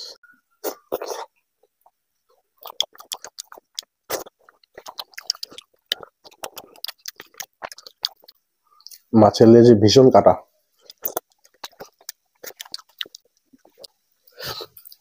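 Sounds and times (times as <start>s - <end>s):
wet chewing mouth clicks: 0.6s - 9.1s, 10.8s - 15.0s.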